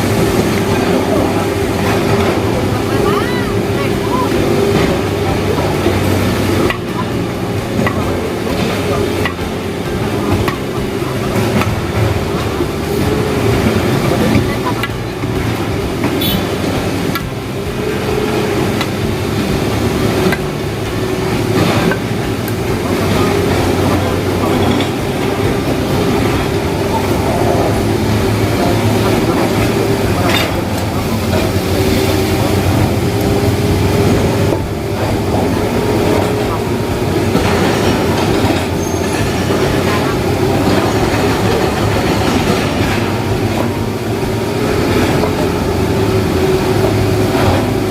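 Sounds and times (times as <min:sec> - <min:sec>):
excavator engine running: 0:00.0 - 0:47.9
hydraulic breaker hammering rock: 0:00.0 - 0:47.9.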